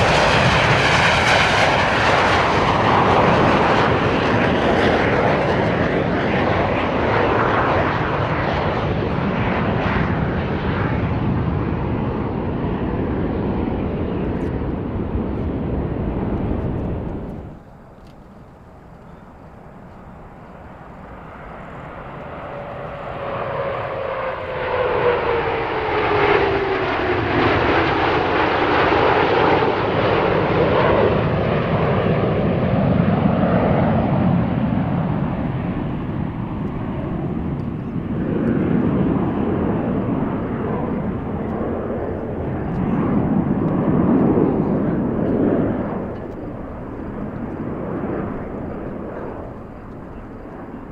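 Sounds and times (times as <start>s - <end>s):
jets flying past: 0.0s - 50.9s.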